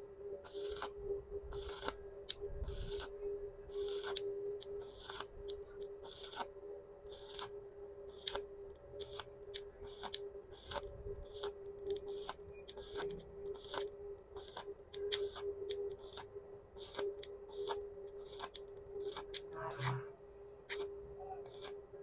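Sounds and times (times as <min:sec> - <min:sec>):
steady hum: 0:00.0 - 0:22.0
welding arc crackling and popping: 0:00.4 - 0:03.1, 0:03.7 - 0:06.5, 0:07.1 - 0:20.0, 0:20.7 - 0:21.9.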